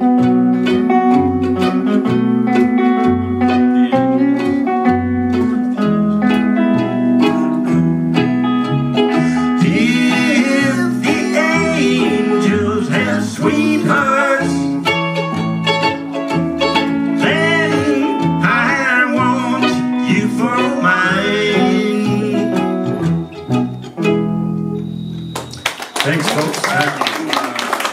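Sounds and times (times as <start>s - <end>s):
string band playing: 0.0s - 27.9s.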